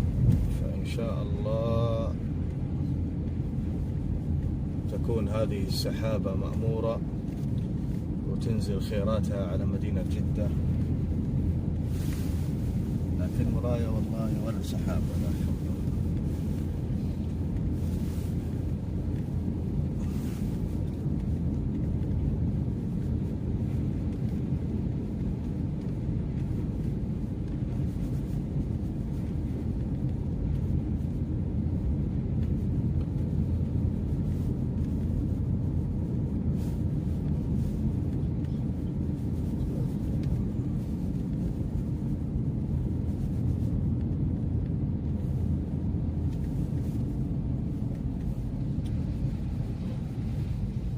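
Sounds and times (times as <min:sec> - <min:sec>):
road traffic: 0:00.0 - 0:50.9
seafront background roar: 0:00.0 - 0:50.9.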